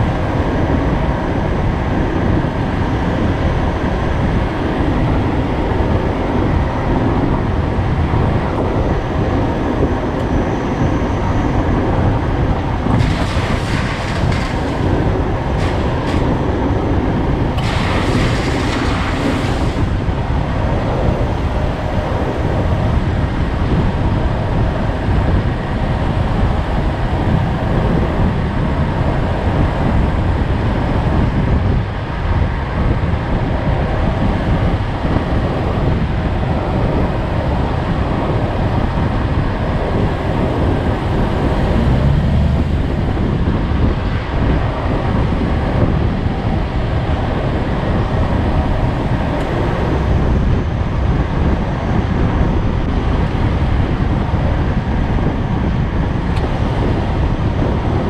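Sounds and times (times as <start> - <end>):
road noise: 0.0 - 58.0
road vehicle rumbling: 0.0 - 58.0
wind noise: 0.0 - 58.0.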